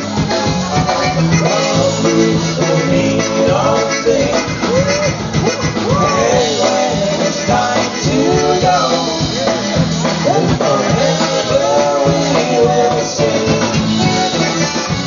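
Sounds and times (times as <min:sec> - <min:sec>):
polka band playing: 0:00.0 - 0:15.0.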